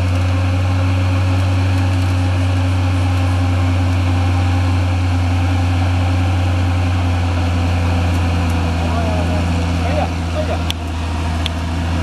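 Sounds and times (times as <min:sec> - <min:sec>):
engine running: 0:00.0 - 0:12.0
winch hauling: 0:00.0 - 0:12.0.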